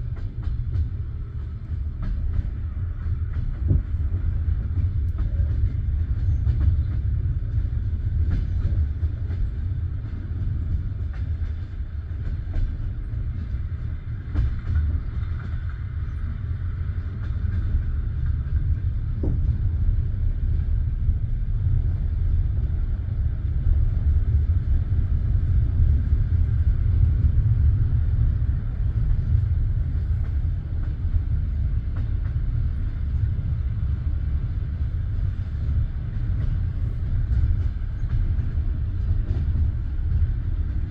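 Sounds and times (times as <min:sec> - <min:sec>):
train carriage rumble: 0:00.0 - 0:40.9.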